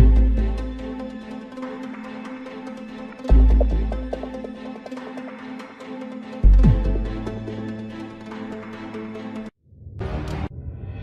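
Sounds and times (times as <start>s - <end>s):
background music sustained tones: 0.0s - 11.0s.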